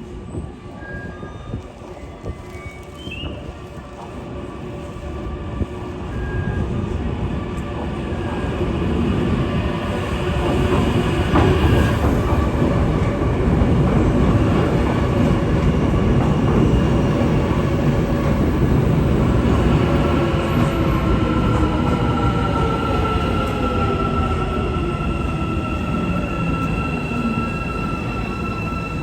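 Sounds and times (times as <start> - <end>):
metro train wheels rumbling: 0.0 - 29.0.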